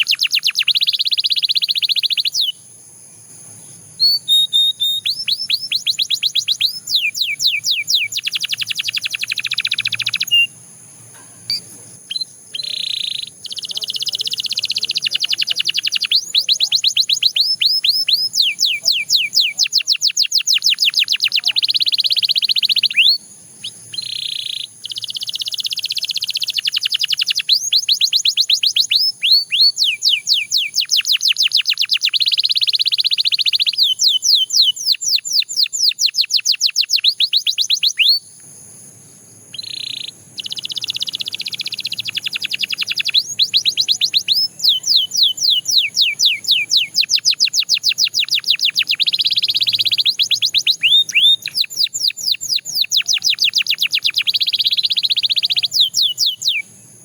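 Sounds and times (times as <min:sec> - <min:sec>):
canary singing in rapid trills: 0:00.0 - 0:02.7, 0:03.8 - 0:10.7, 0:11.5 - 0:38.2, 0:39.5 - 0:56.8.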